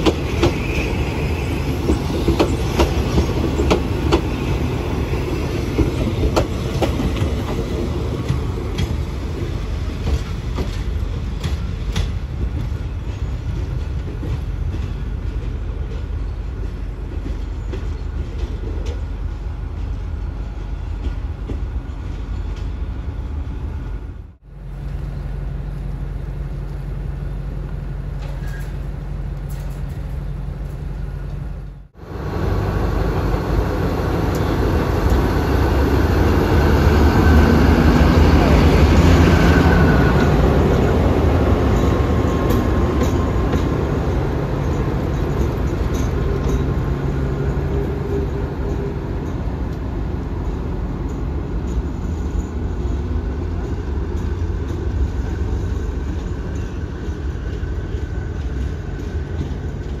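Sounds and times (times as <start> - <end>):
diesel locomotive engine rumbling: 0.0 - 60.0.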